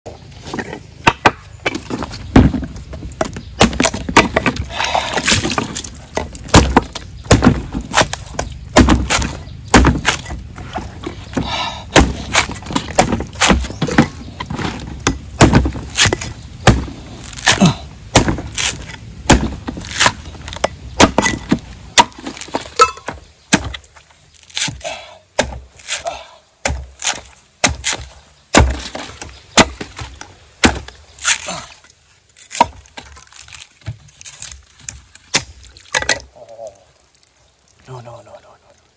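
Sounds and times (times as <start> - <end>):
cleaver chopping coconut husk: 1.0 - 31.8, 32.4 - 36.7.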